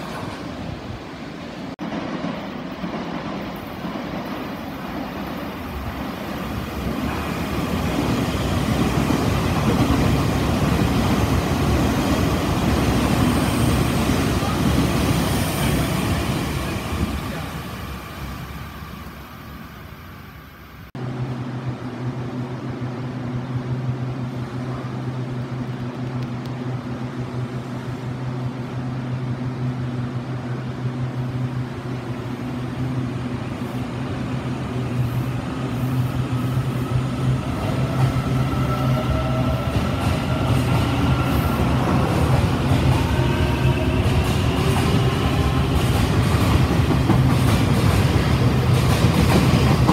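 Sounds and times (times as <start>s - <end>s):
electric train humming: 0.0s - 49.9s.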